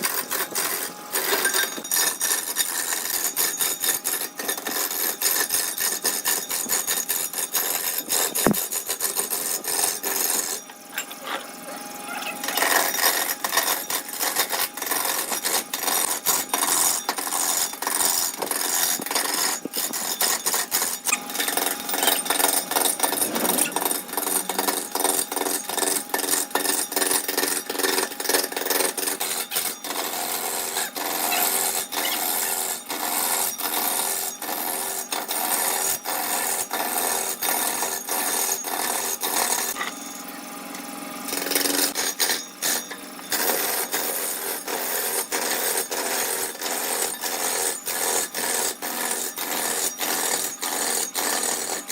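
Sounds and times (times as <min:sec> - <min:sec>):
lathe tool scraping wood: 0:00.0 - 0:11.6, 0:12.2 - 0:40.0, 0:41.3 - 0:51.9.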